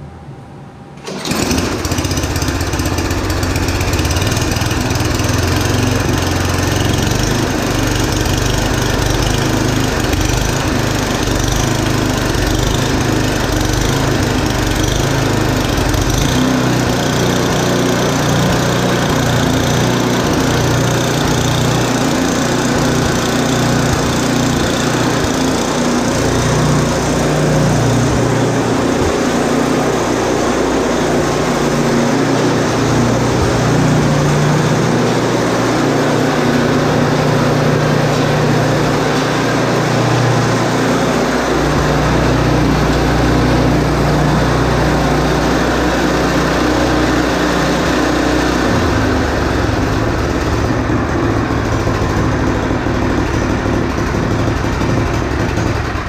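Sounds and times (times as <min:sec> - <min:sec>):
snowblower engine running: 0:01.0 - 0:56.0.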